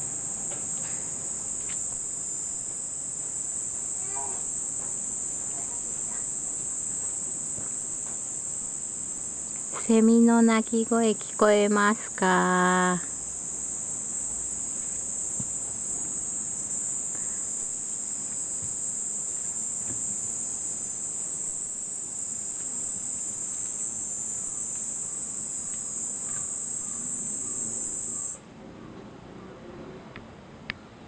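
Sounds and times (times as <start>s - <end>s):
cicada buzzing: 0.0s - 28.4s.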